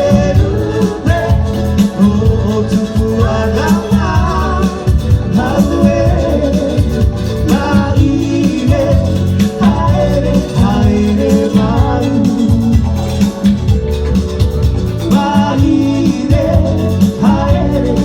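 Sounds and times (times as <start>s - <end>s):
person singing: 0.0s - 13.4s, 15.0s - 18.0s
dance music with bass and beat: 0.0s - 18.0s.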